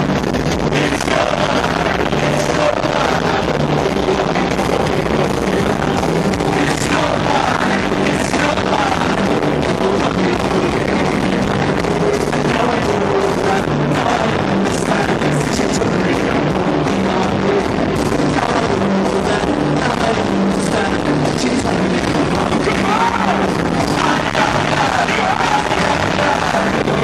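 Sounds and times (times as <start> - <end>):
ska band playing live: 0.0 - 27.0.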